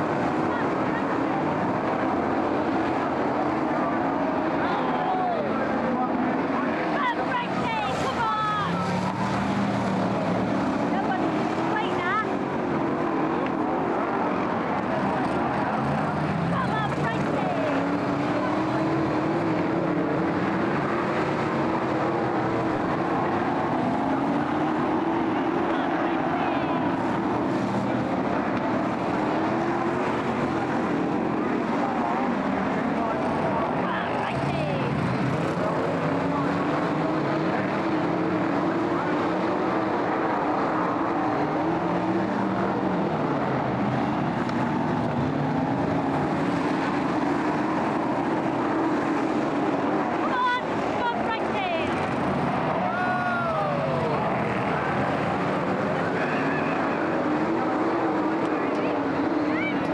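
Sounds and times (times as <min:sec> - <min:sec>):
stock car engines droning: 0:00.0 - 0:59.9.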